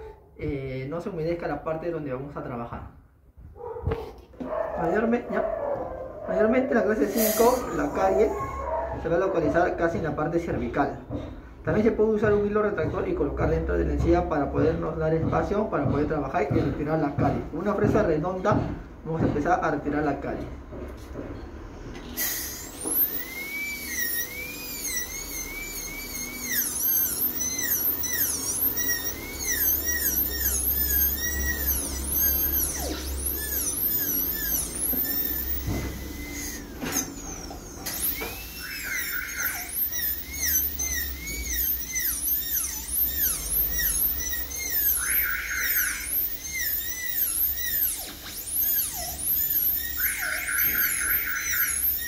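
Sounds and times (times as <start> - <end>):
dental drill whining: 6.4 - 52.0.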